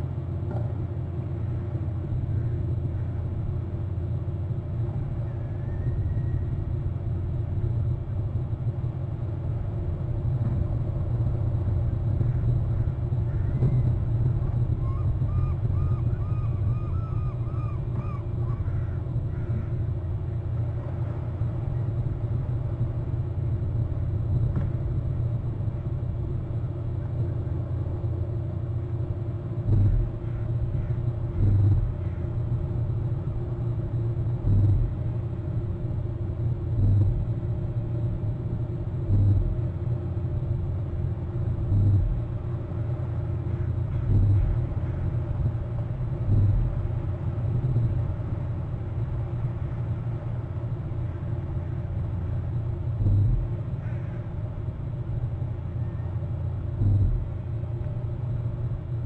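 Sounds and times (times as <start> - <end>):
low rumble with faint hum: 0.0 - 59.0.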